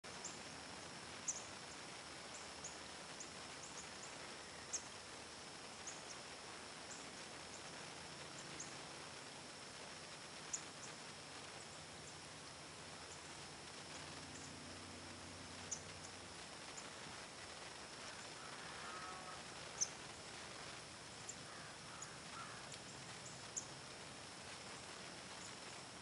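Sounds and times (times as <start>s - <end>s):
insect hum: 0.0s - 26.0s.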